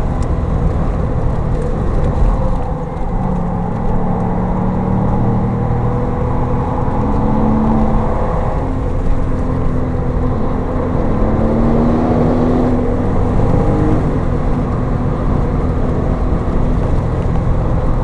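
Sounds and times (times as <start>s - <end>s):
car engine revving: 0.0s - 18.0s
road noise inside car: 0.0s - 18.0s.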